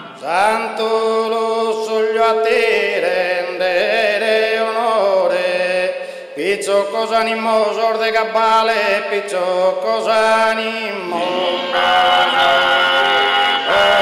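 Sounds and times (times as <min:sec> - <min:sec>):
male voices singing in harmony: 0:00.0 - 0:14.0.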